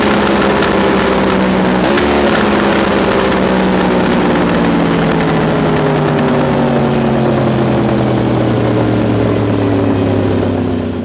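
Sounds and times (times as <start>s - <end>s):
motorcycle engine revs dropping: 0.0s - 11.0s.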